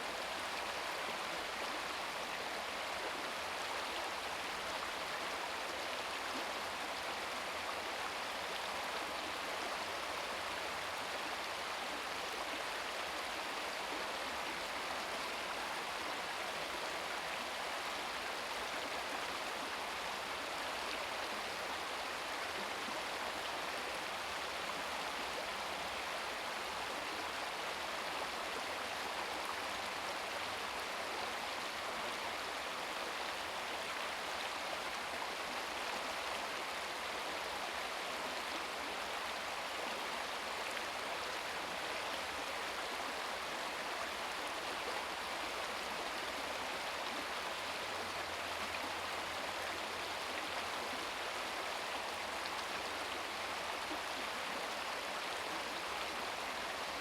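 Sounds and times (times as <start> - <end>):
brook babbling over rocks: 0.0 - 57.0.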